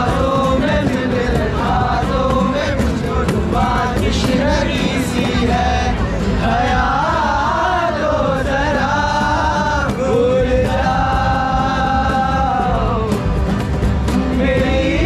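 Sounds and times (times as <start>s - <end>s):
man and group singing: 0.0s - 13.4s, 14.1s - 15.0s
acoustic guitars strummed: 0.0s - 15.0s.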